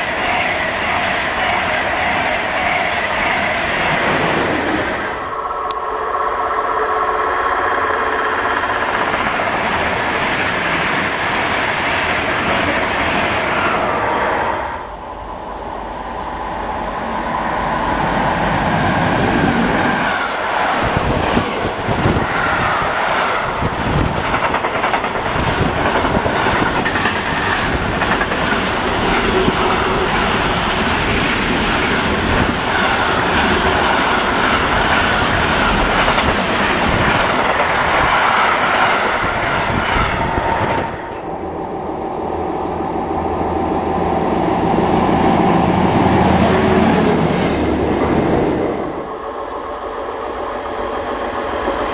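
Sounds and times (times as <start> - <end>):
train wheel and rail rush: 0.0 - 51.9.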